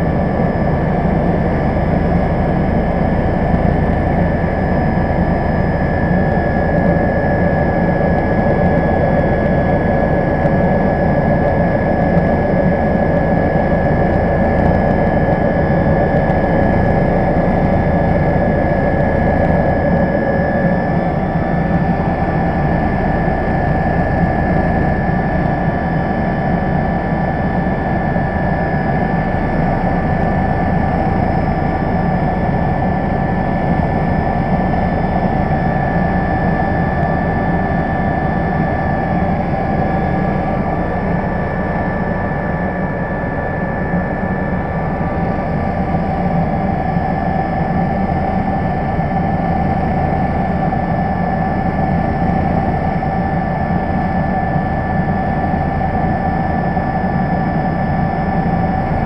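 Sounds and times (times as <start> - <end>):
helicopter engine whine and rumble: 0.0 - 59.0.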